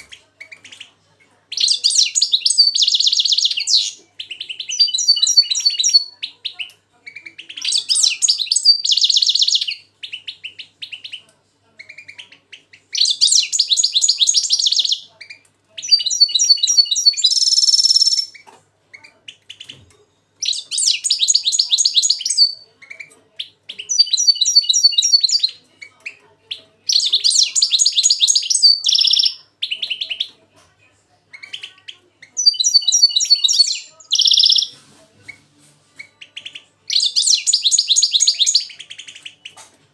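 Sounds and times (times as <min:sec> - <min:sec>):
finches singing trills: 0:01.5 - 0:19.8, 0:20.4 - 0:30.3, 0:31.3 - 0:34.8, 0:36.0 - 0:39.6.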